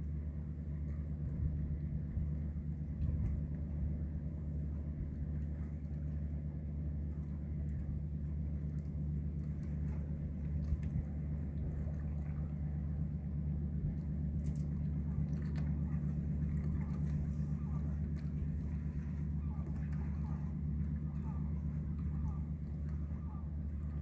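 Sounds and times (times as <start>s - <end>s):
ship engines droning: 0.0s - 24.0s.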